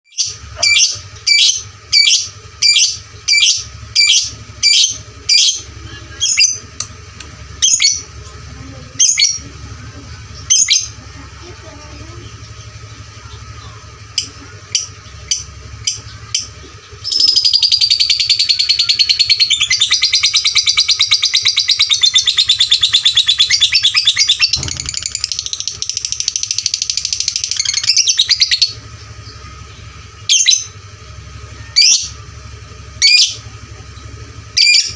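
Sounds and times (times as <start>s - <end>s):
lovebird rapid chattering song: 0.1s - 34.9s.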